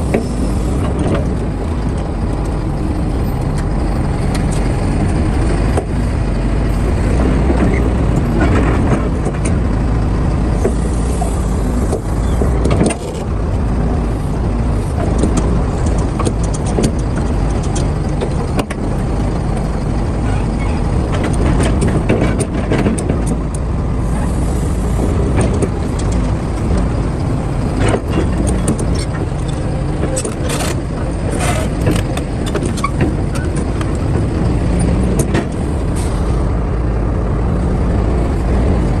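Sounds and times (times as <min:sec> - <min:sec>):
excavator diesel engine: 0:00.0 - 0:39.0.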